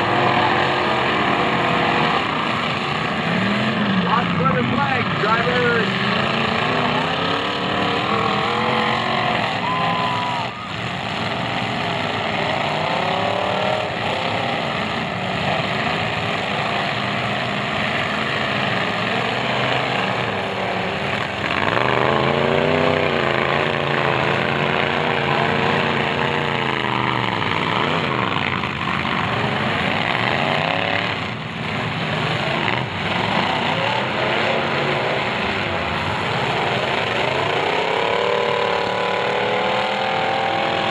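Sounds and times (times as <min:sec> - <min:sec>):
car engines revving hard: 0:00.0 - 0:40.9.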